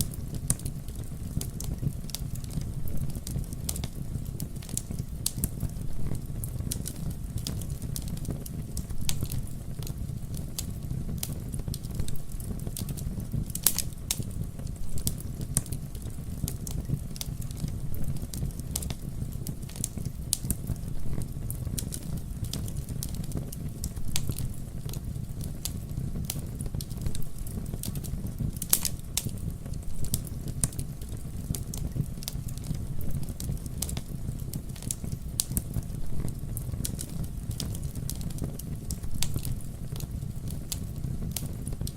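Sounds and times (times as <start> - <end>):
fire crackles and pops: 0.0 - 41.9
low rumble of flames: 0.0 - 41.9.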